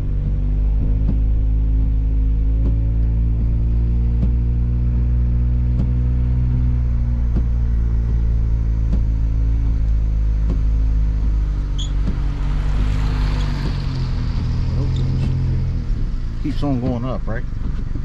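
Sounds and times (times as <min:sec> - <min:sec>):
car engine and road noise: 0:00.0 - 0:18.0
passing truck: 0:00.0 - 0:18.0.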